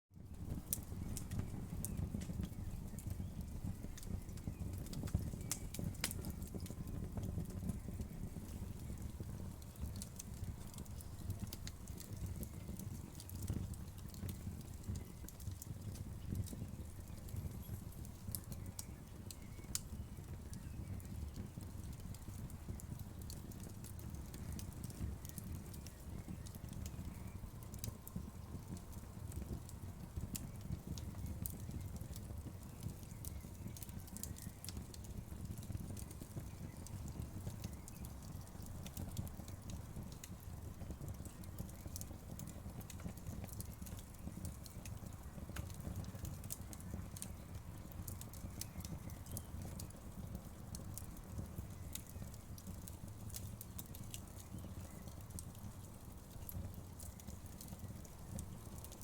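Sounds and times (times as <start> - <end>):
wood fire crackling: 0.2 - 59.0.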